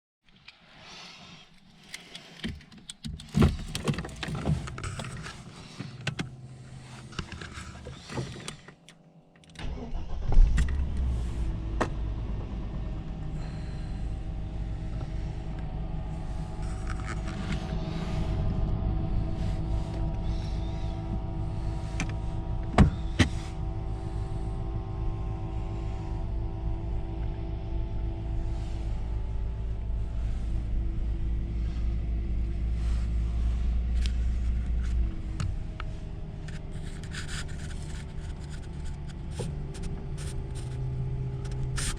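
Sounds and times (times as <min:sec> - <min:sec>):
engine starting and idling: 0:03.1 - 0:41.9.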